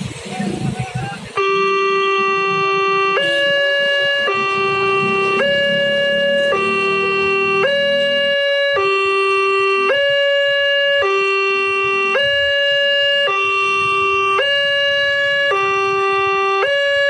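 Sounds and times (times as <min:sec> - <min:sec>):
level-crossing two-tone alarm: 0:00.4 - 0:17.0.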